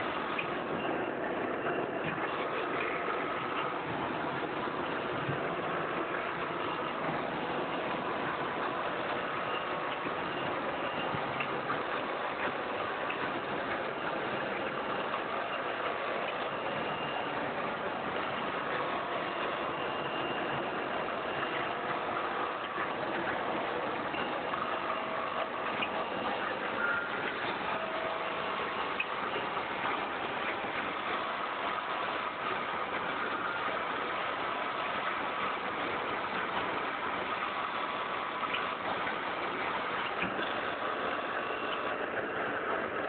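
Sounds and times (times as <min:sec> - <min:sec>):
faint mechanical ticks: 0:00.0 - 0:43.0
packing machine humming: 0:00.0 - 0:43.0.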